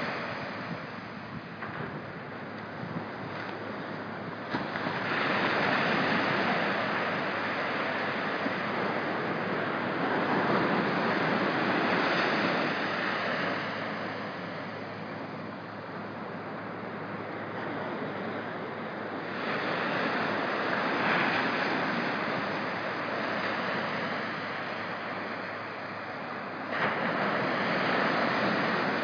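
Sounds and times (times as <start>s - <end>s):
small surf breaking on beach: 0.0s - 29.0s.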